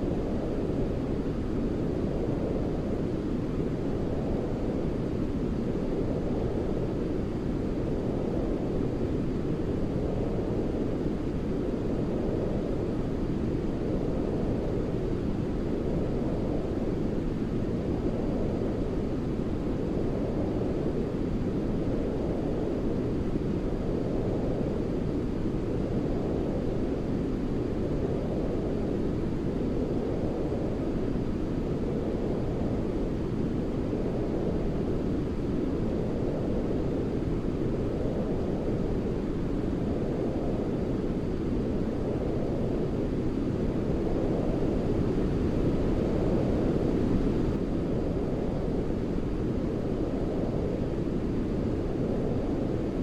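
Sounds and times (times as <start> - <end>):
low rumbling brown noise: 0.0 - 53.0.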